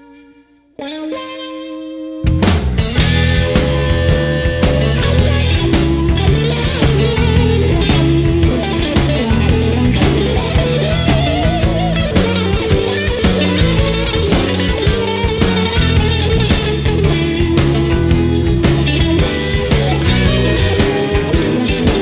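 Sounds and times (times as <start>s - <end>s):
rock music: 0.0s - 22.0s
wavering lead guitar note: 0.0s - 22.0s.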